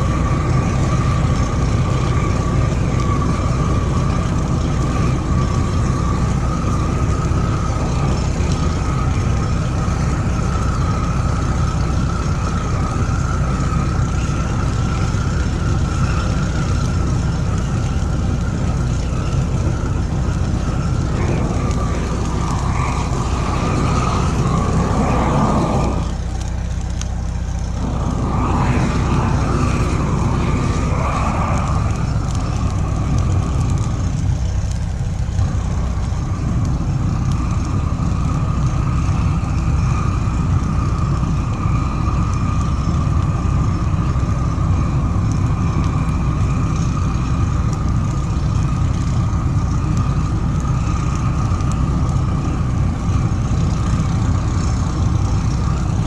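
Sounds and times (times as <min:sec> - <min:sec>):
diesel engine droning: 0:00.0 - 0:56.0
engine clatter: 0:00.0 - 0:56.0.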